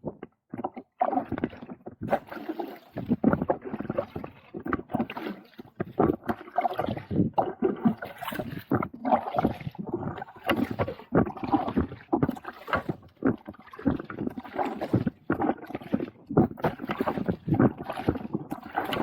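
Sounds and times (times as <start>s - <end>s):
kayak paddle splashing: 1.0s - 19.0s.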